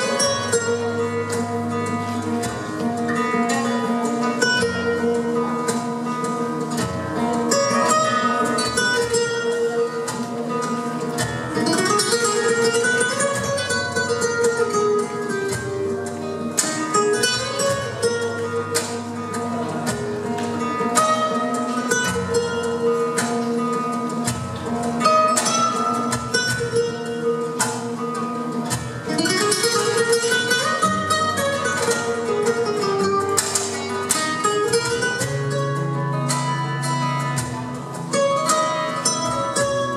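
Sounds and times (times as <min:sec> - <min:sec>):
flamenco guitar playing: 0:00.0 - 0:39.9.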